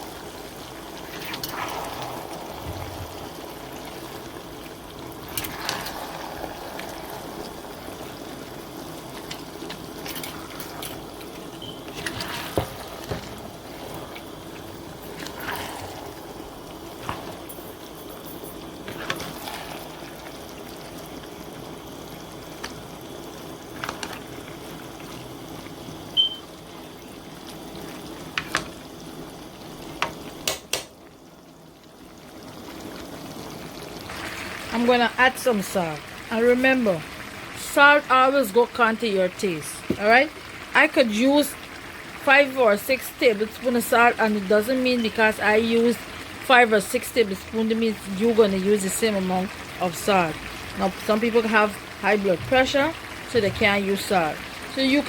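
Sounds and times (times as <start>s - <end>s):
curry bubbling in a pot: 0.0s - 55.0s.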